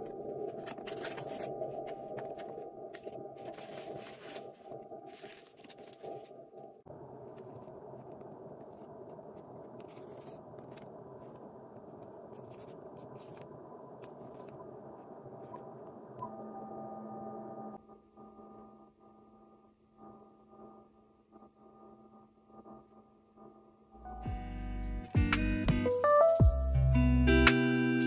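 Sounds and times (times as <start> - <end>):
low hum: 0.0 - 25.6.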